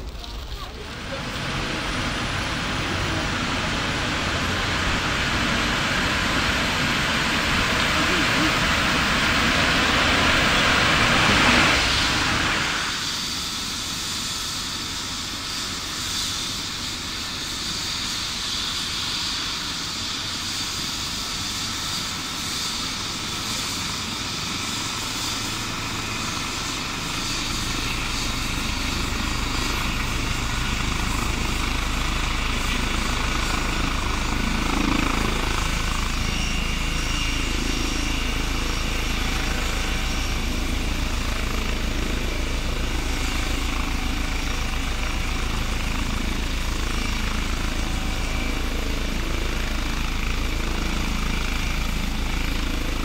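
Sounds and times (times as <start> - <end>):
helicopter engines whining: 0.0 - 53.0
helicopter rotor beat: 0.0 - 53.0.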